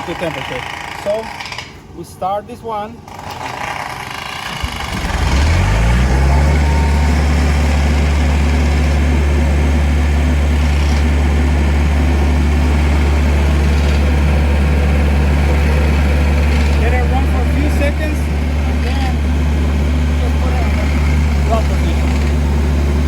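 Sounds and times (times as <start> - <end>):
diesel engine starting and idling: 3.0 - 23.0.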